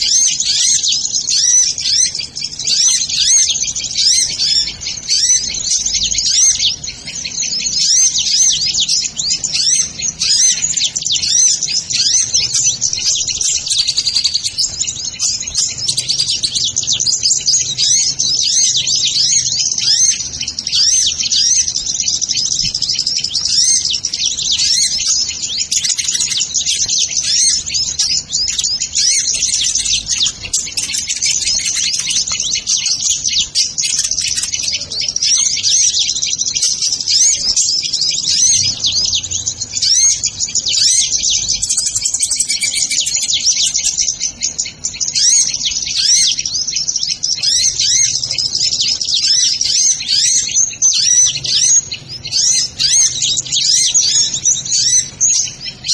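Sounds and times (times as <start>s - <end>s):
birds chirping and twittering: 0.0s - 55.9s.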